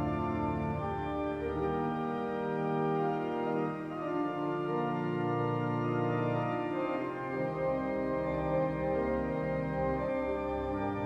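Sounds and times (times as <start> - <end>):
sustained organ chords: 0.0 - 11.0.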